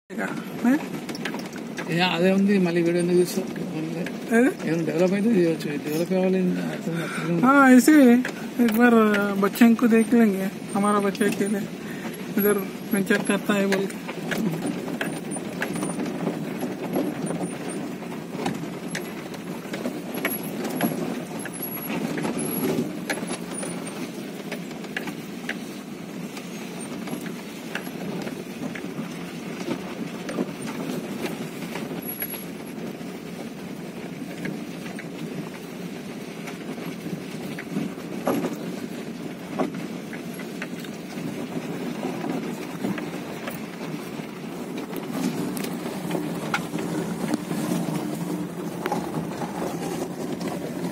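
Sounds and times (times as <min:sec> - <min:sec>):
engine and tyre rumble: 0:00.1 - 0:50.9
gravel ticks and crunches: 0:00.2 - 0:50.9.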